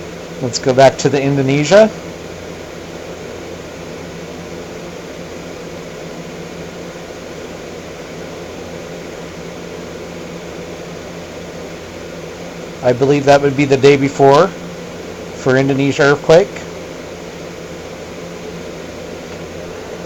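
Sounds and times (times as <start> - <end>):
steady hum and hiss: 0.0 - 20.0.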